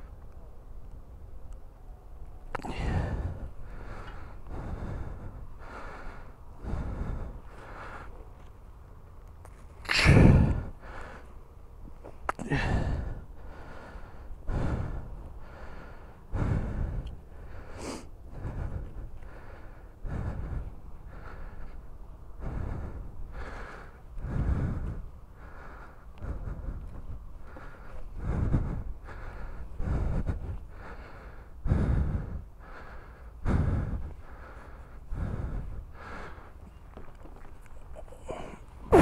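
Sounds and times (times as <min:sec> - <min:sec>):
person breathing hard: 0:02.5 - 0:08.5, 0:09.9 - 0:39.0.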